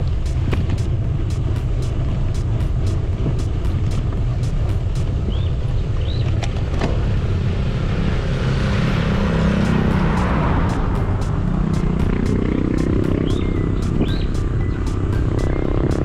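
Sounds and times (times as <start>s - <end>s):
bicycle road rumble: 0.0s - 16.0s
motor vehicle passing: 0.0s - 16.0s.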